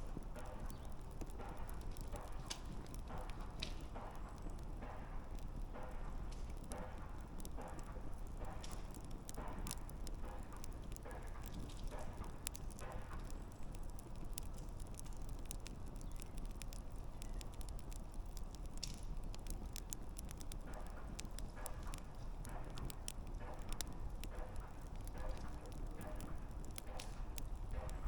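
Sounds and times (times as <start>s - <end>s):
campfire pops and snaps: 0.0s - 28.0s
low rumble of burning: 0.0s - 28.0s.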